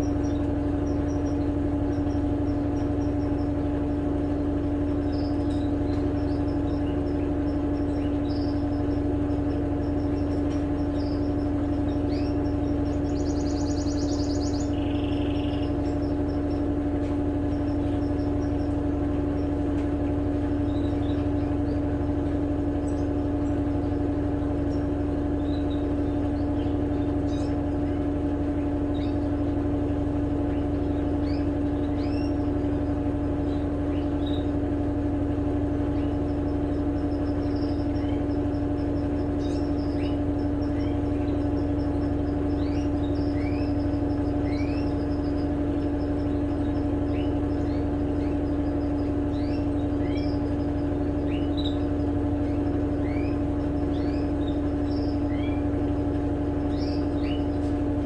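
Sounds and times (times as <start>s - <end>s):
birds chirping: 0.0s - 58.0s
washing machine spinning: 0.0s - 58.0s.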